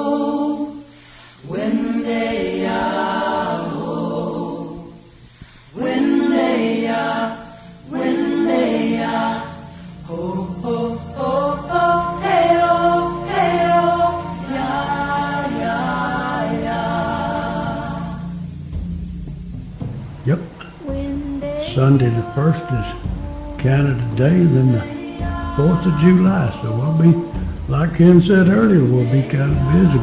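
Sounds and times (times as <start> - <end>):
person singing unaccompanied: 0.0 - 18.8, 20.6 - 30.0.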